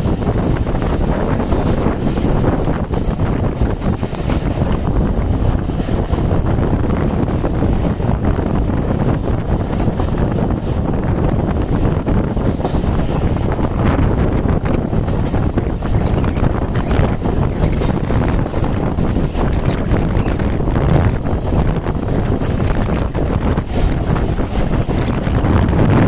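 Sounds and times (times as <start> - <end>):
train wheels rumbling on track: 0.0 - 26.0
wind buffeting microphone: 0.0 - 26.0.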